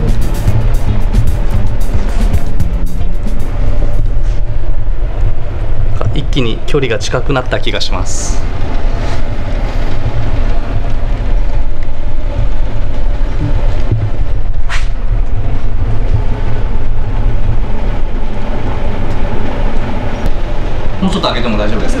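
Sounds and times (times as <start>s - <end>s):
loud low rumble: 0.0s - 22.0s.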